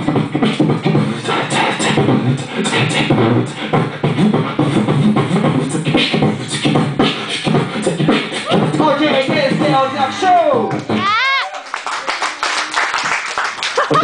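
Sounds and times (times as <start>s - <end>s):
person beatboxing into microphone: 0.0s - 11.4s.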